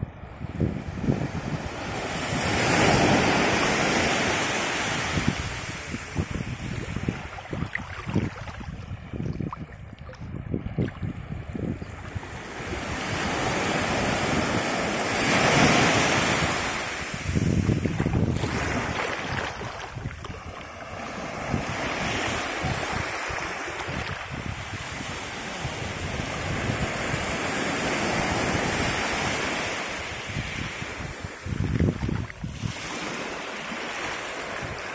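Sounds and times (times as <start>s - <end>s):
wind buffeting microphone: 0.0s - 34.9s
small waves washing up beach: 0.2s - 34.9s.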